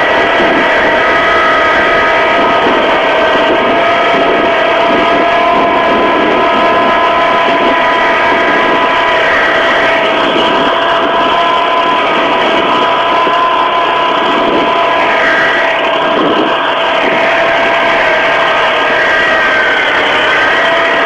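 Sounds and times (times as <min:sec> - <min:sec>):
steady whine: 0:00.0 - 0:21.0
tractor engine running: 0:00.0 - 0:21.0.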